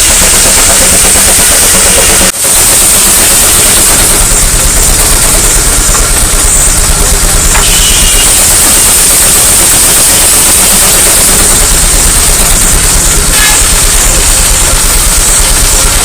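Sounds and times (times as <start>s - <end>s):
steam engine chuffing: 0.0s - 16.0s
steam hissing: 0.0s - 16.0s.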